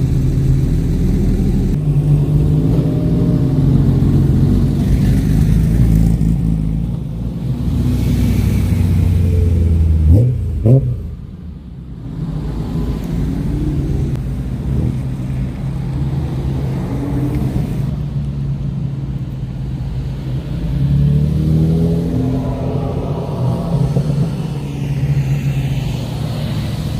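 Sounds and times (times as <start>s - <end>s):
car engine revving and idling: 0.0s - 26.9s.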